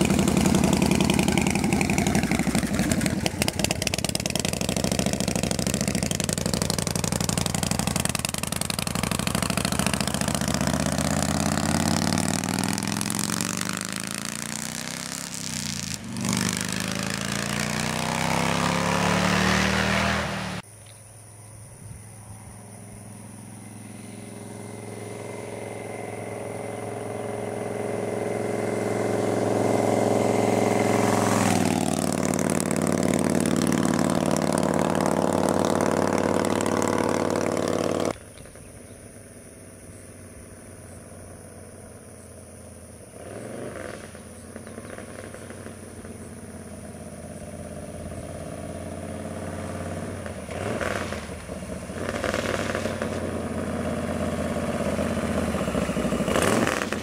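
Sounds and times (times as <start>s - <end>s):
motorcycle engine running: 0.0s - 20.6s, 22.8s - 42.4s, 43.2s - 57.0s.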